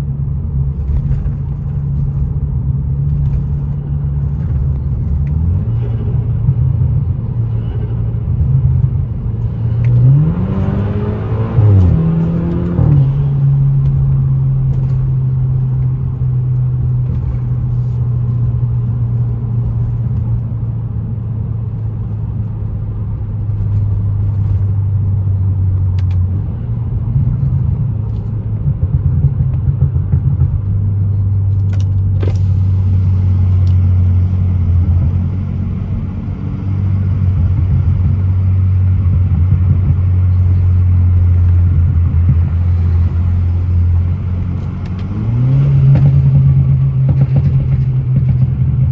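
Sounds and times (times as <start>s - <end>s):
car engine humming: 0.0s - 48.9s
road noise: 0.0s - 48.9s.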